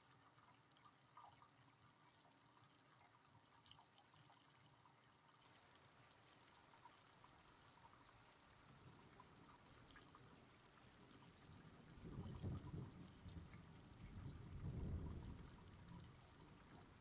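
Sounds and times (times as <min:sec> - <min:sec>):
faint light rain: 0:00.0 - 0:17.0
water drips: 0:00.0 - 0:17.0.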